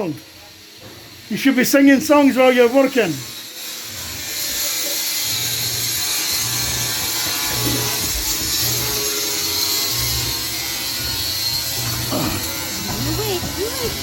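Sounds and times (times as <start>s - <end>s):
saw cutting wood: 0.0s - 14.0s.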